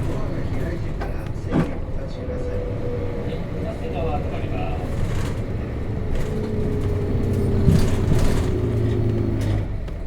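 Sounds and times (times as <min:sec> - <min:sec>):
diesel bus engine running: 0:00.0 - 0:10.0.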